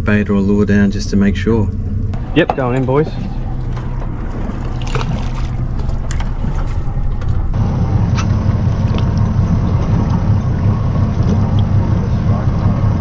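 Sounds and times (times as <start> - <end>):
fishing boat engine rumble: 0.0 - 13.0.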